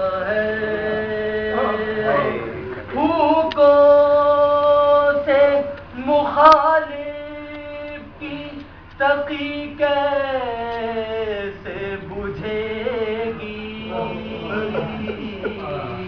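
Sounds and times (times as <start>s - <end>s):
person singing unaccompanied: 0.0s - 16.0s.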